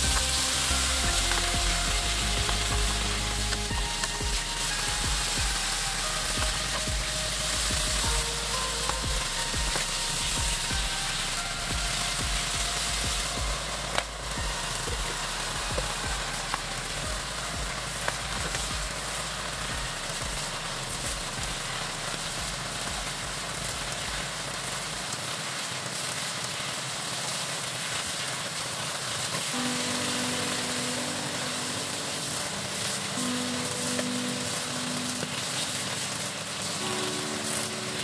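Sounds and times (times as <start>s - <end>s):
soft background music: 0.0s - 26.1s, 29.4s - 38.0s
food sizzling in a frying pan: 0.0s - 38.0s.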